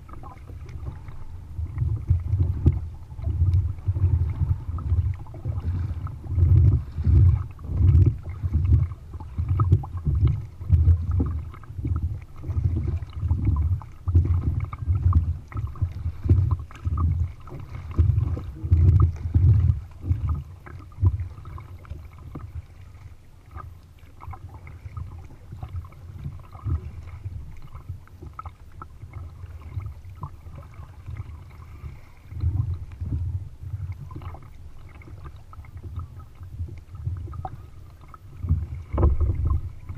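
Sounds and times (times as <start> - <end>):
kayak paddle strokes in water: 0.0 - 39.9.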